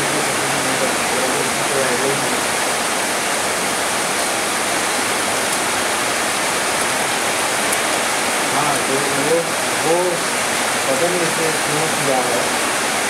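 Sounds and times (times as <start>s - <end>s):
rain on foliage: 0.0s - 13.0s.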